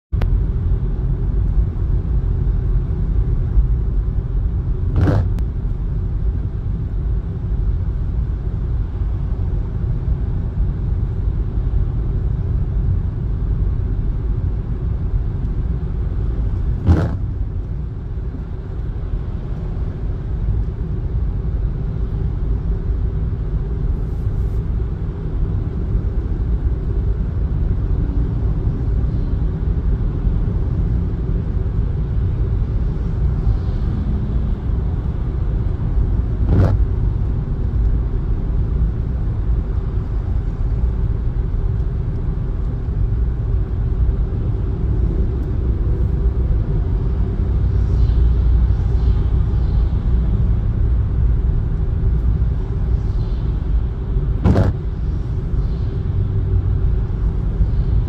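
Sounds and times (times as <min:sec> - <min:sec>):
car road rumble on wet road: 0:00.2 - 0:58.0.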